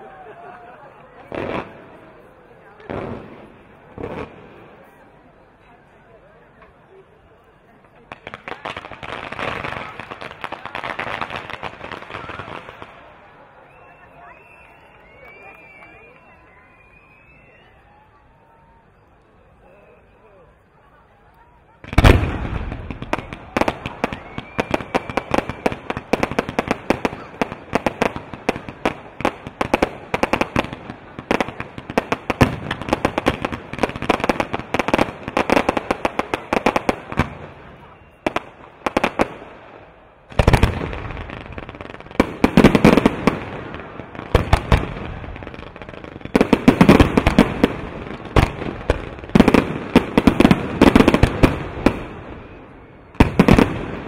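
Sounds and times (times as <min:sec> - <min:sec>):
fireworks crackling and popping: 0:00.0 - 0:05.6, 0:06.5 - 0:17.8, 0:20.9 - 0:54.0.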